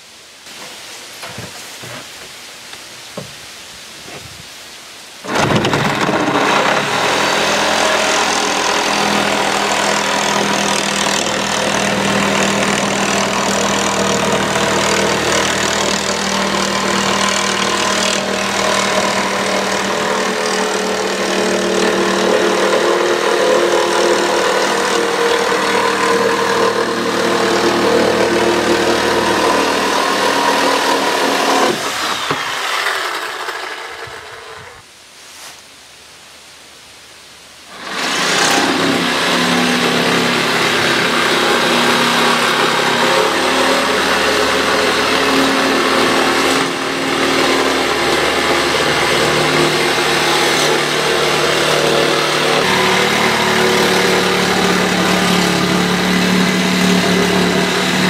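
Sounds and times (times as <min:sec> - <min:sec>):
power saw cutting board: 0:05.2 - 0:34.9, 0:37.7 - 0:58.0.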